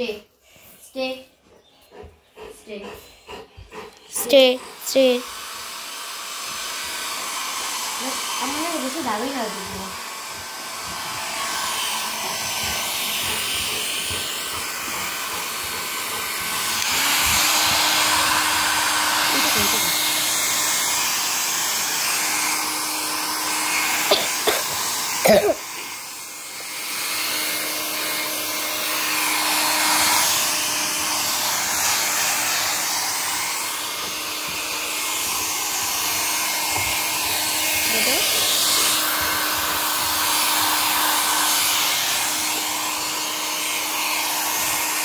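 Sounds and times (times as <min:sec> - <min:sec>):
hair dryer blowing: 0:02.7 - 0:45.0.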